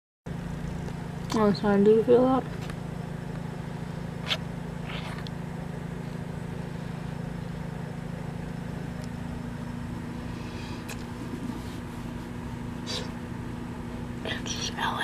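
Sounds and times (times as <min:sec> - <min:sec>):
low mechanical hum: 0:00.3 - 0:15.0.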